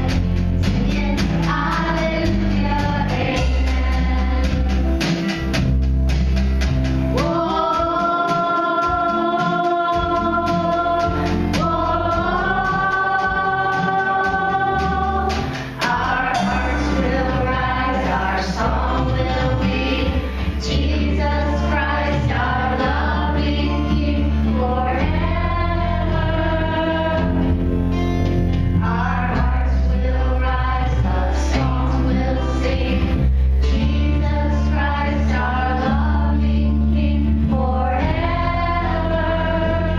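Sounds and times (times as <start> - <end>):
choir singing gospel song: 0.0 - 5.4, 7.1 - 28.1, 28.7 - 39.9
instrumental accompaniment with bass: 0.0 - 39.9.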